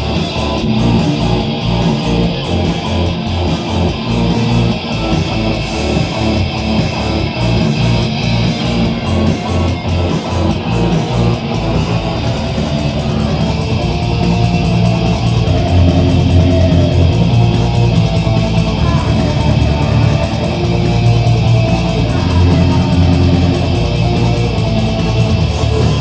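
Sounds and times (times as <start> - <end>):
drum kit fast beat: 0.0 - 26.0
electric guitar: 0.0 - 26.0.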